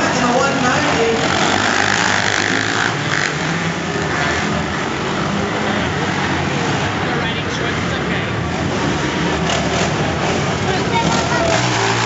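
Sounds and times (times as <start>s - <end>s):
racing engines: 0.0s - 12.0s.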